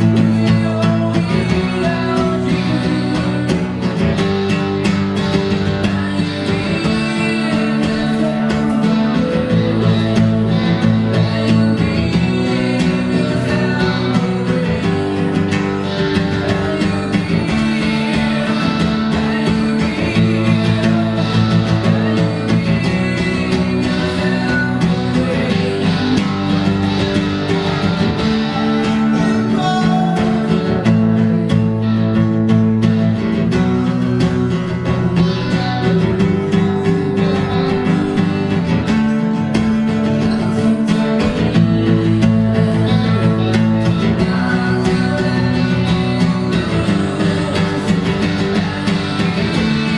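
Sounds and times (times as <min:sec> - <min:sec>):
acoustic guitar strummed: 0:00.0 - 0:49.9
electric guitar playing: 0:00.0 - 0:49.9.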